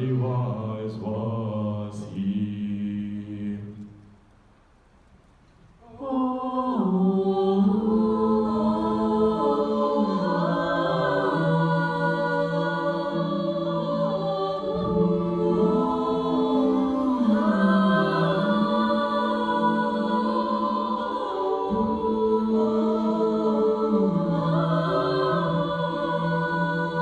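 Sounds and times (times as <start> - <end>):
vocal group singing harmony: 0.0 - 4.0, 5.8 - 27.0.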